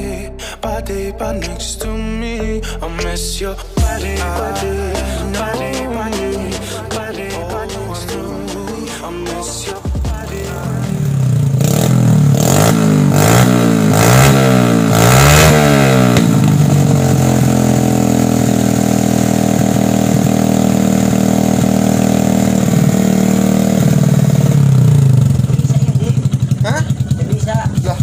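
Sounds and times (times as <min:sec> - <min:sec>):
motorcycle engine revving and idling: 0:03.6 - 0:28.0.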